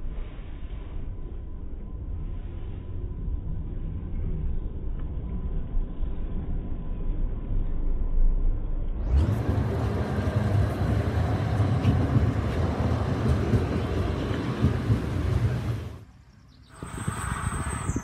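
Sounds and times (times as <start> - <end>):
tram rolling on rails: 2.9 - 18.0.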